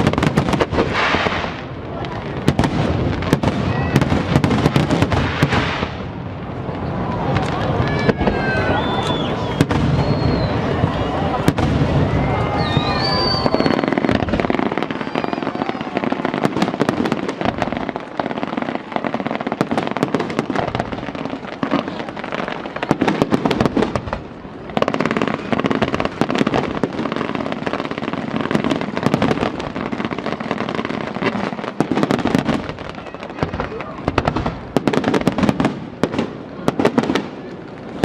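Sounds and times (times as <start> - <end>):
fireworks bursting and crackling: 0.0 - 38.0.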